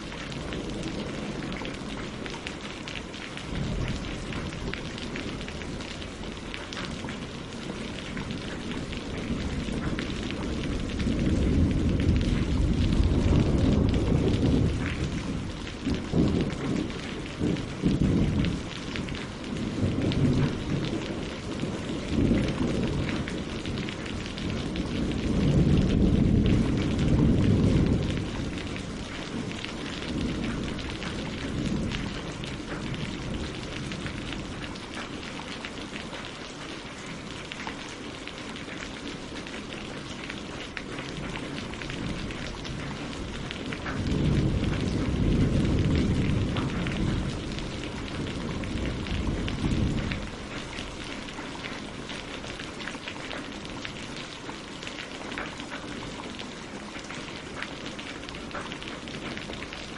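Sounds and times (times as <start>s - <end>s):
rolling thunder rumble: 0.0s - 35.5s, 40.0s - 52.5s
rain on leaves and water: 0.0s - 59.9s.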